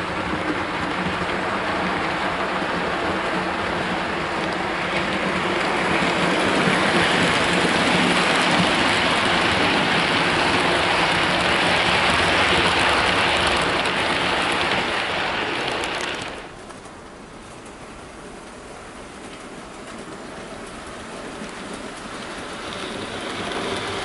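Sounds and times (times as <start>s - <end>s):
model train wheels rumbling: 0.0s - 24.0s.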